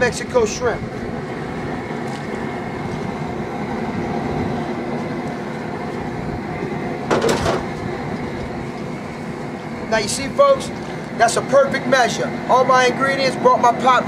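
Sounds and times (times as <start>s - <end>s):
rumbling background noise: 0.0s - 14.0s.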